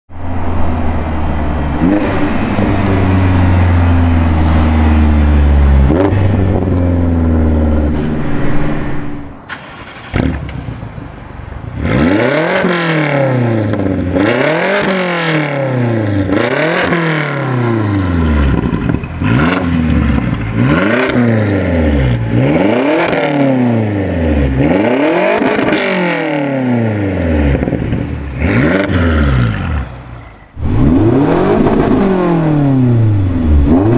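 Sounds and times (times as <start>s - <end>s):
car engine accelerating: 0.2s - 11.1s, 11.7s - 33.9s
car engine revving: 0.4s - 33.9s.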